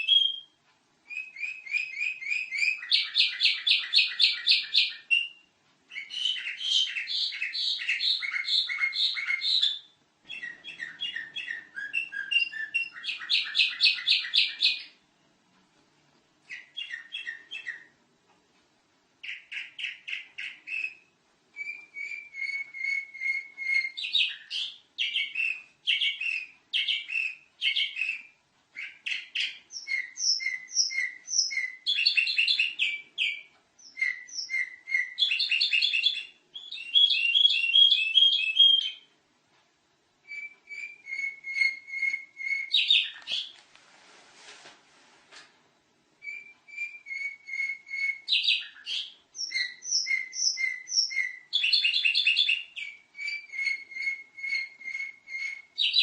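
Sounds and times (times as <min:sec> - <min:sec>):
canary singing trilled phrases: 0:00.0 - 0:15.0, 0:16.4 - 0:18.0, 0:19.2 - 0:39.2, 0:40.2 - 0:43.6, 0:46.2 - 0:56.0.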